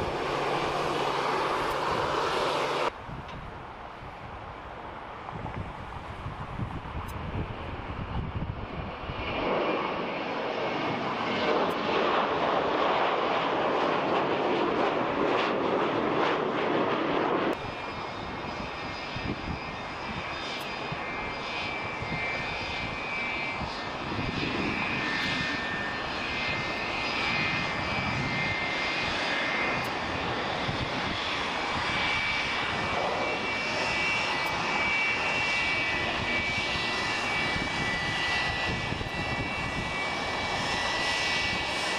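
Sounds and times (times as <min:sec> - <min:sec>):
jet engines whining: 0:00.0 - 0:41.9
jet roar: 0:00.0 - 0:41.9.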